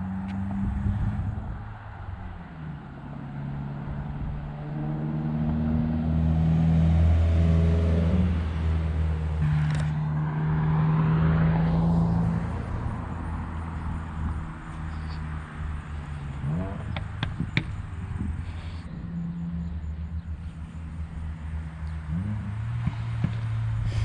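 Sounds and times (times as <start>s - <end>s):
car exhaust droning: 0.0s - 24.0s.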